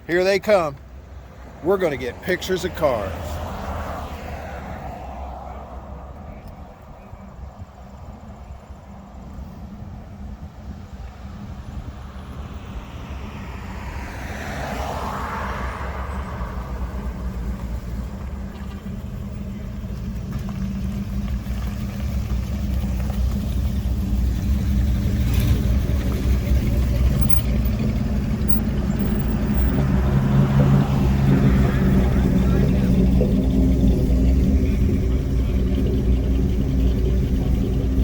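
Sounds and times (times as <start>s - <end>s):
cars driving slowly past: 0.0s - 38.0s
engine low rumble approaching: 0.0s - 38.0s.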